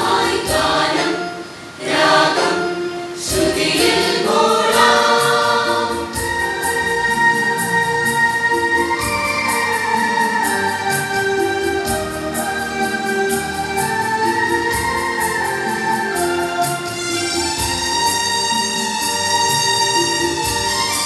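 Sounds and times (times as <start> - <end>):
choir singing a hymn: 0.0 - 18.1.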